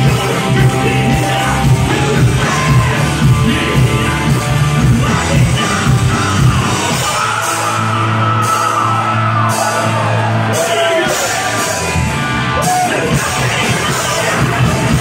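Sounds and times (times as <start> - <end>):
crowd yelling: 0.0 - 15.0
hard rock band playing live: 0.0 - 15.0.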